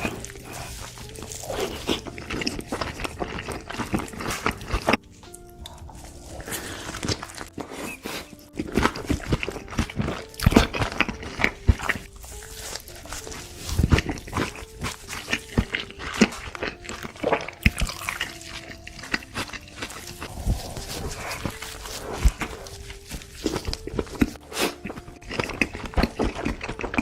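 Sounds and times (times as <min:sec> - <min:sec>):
quiet background music: 0:00.0 - 0:27.0
wet chewing and lip-smacking: 0:00.0 - 0:27.0.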